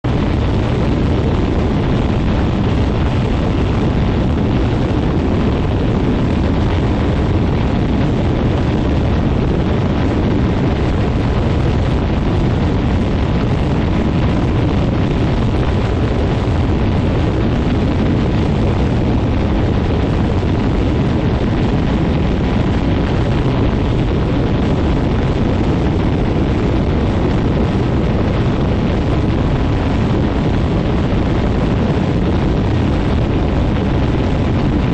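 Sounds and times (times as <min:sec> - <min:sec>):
plane engine and propeller: 0:00.0 - 0:34.9
wind buffeting microphone: 0:00.0 - 0:34.9.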